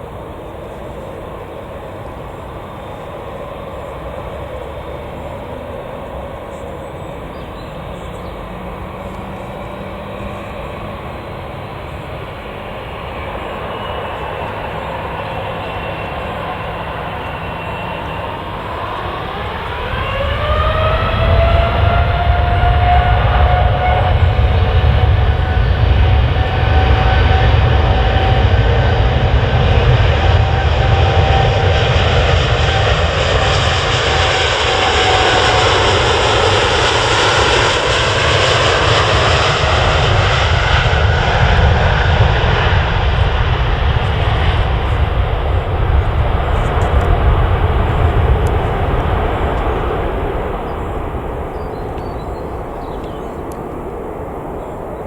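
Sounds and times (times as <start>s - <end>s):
jet engines rumbling and whining: 0.0s - 55.0s.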